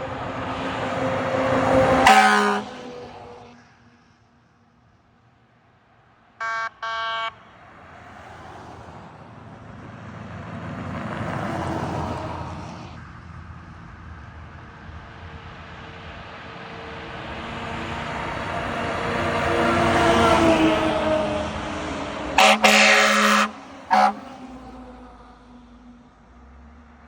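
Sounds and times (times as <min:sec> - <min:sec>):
large trucks driving past: 0:00.0 - 0:05.3, 0:05.9 - 0:27.0.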